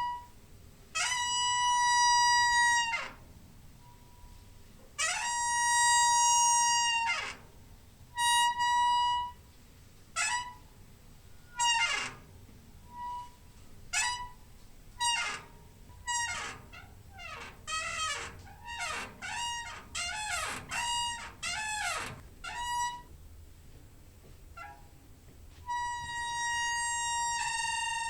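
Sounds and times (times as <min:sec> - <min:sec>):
door hinge squeaking: 0:01.0 - 0:04.4, 0:05.0 - 0:09.4, 0:10.2 - 0:10.7, 0:11.3 - 0:23.1, 0:24.6 - 0:25.0, 0:25.7 - 0:28.0.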